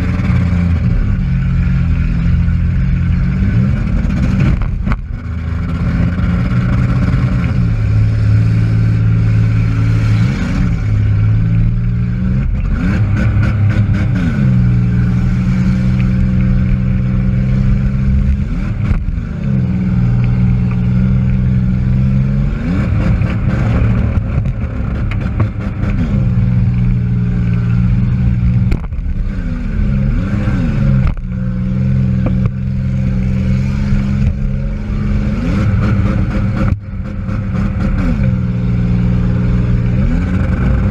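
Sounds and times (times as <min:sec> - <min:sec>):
car engine at high revs: 0:00.0 - 0:40.9.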